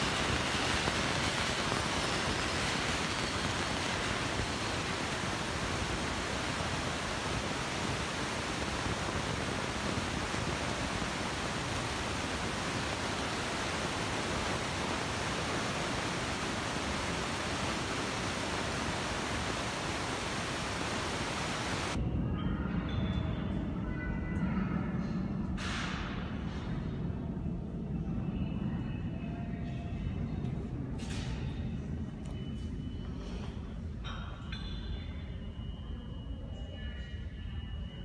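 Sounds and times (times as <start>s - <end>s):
subway station rushing noise: 0.0s - 38.0s.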